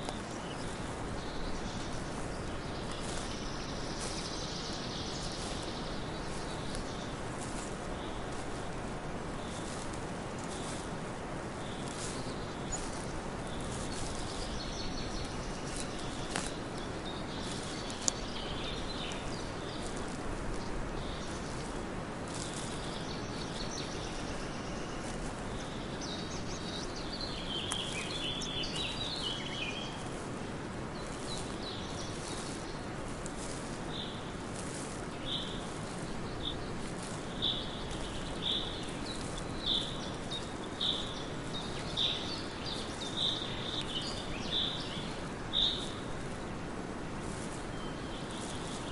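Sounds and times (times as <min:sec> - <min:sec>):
birds chirping: 0:00.0 - 0:48.9
footsteps on trail: 0:00.0 - 0:48.9
forest background rush: 0:00.0 - 0:48.9.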